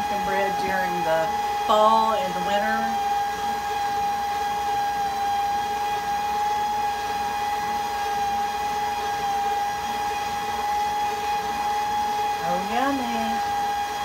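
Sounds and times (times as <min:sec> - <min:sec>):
stand mixer whining: 0:00.0 - 0:14.0.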